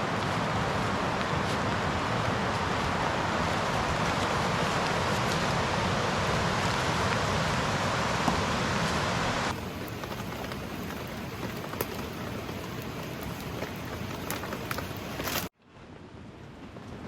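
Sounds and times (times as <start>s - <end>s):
heavy rain and running water: 0.0s - 15.6s.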